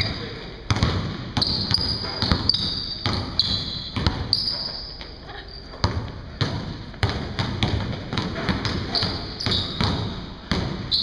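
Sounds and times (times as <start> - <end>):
basketball bouncing on gym floor: 0.0 - 11.0.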